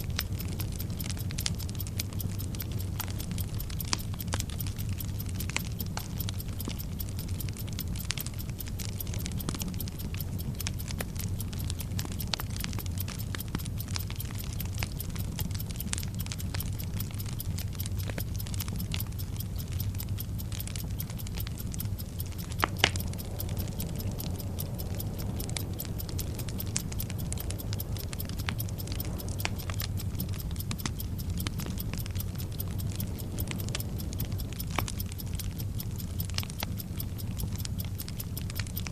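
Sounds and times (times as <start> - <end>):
burning fuse crackling: 0.0 - 38.9
fast clock ticking: 0.0 - 38.9.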